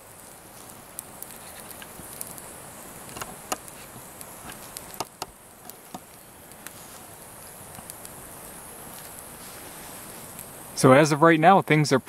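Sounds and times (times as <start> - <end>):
campfire crackling: 0.0 - 12.0
insects droning: 0.0 - 12.0.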